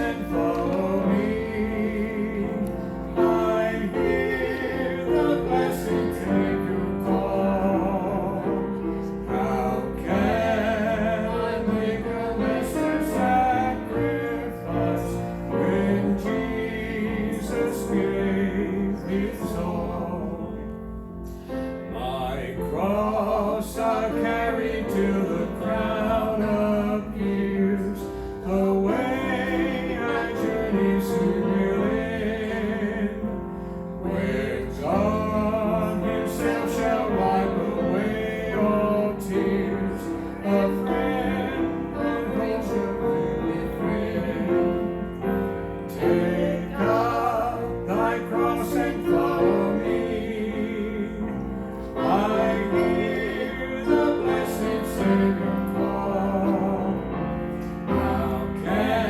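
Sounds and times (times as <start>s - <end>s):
piano accompaniment: 0.0s - 59.0s.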